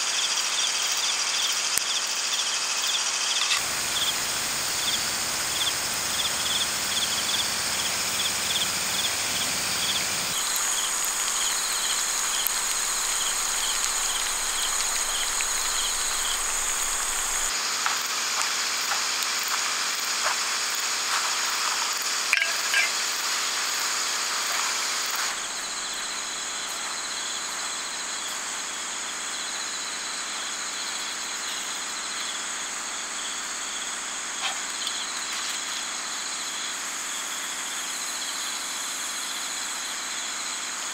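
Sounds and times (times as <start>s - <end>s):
insects and crickets chirping: 0.0s - 40.9s.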